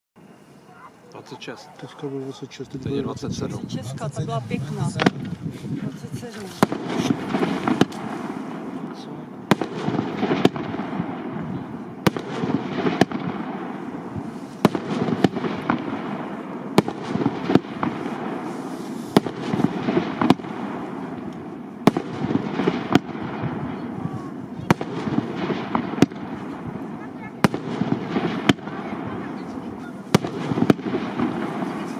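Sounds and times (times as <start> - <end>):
firework crackle and rumble: 2.0 - 31.9
firework bangs: 2.8 - 31.9.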